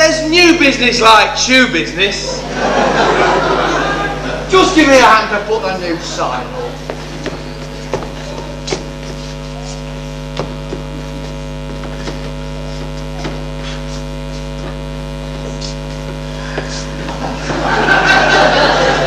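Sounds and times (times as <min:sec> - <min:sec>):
electrical mains hum: 0:00.0 - 0:19.0
audience noise: 0:02.1 - 0:19.0.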